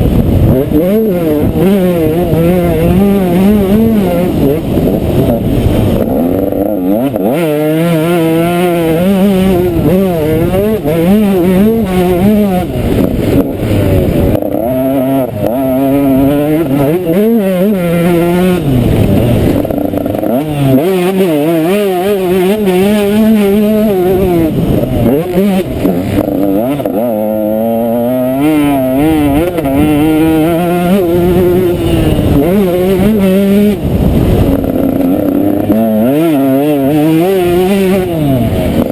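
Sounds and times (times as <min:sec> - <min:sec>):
motocross bike engine revving: 0:00.0 - 0:38.9
wind on microphone: 0:00.0 - 0:38.9.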